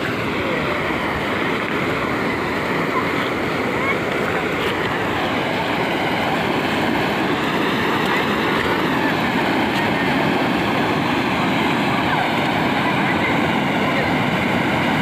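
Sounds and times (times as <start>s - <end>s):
floodwater pouring over weir: 0.0s - 15.0s.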